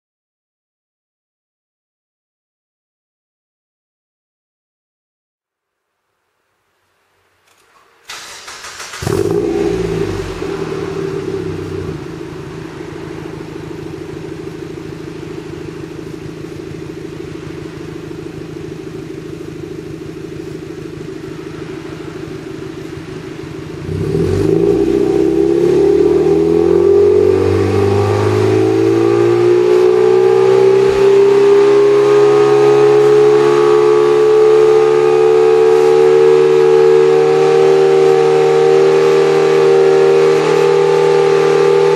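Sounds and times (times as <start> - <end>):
car engine idling and revving: 7.5 - 41.9.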